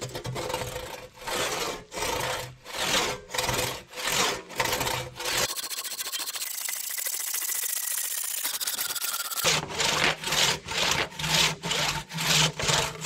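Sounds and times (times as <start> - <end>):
crosscut saw cutting log: 0.0 - 13.0.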